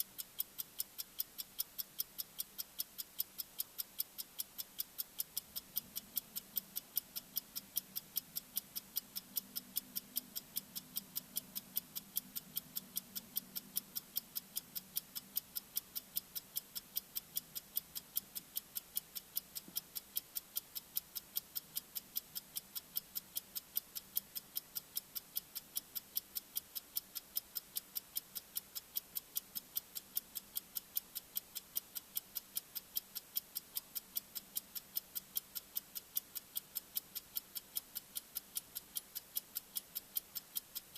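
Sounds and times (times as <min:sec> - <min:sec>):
bomb timer ticking: 0:00.0 - 0:40.9.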